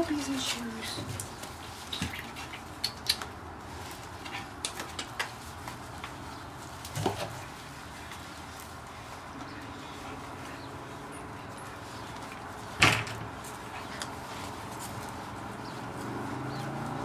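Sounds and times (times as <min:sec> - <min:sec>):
puppy paws clicking and scuffling: 0:00.0 - 0:17.0.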